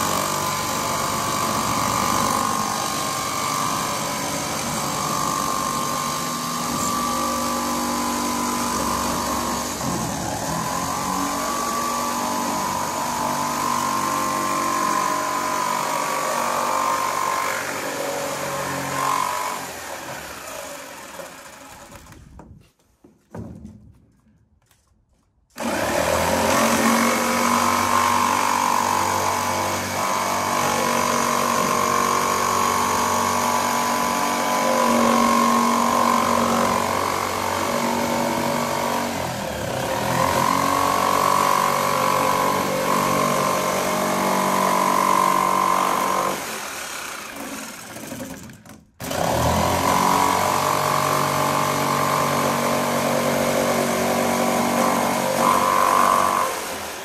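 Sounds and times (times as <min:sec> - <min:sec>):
jigsaw cutting plastic sheet: 0:00.0 - 0:22.4, 0:25.5 - 0:57.0.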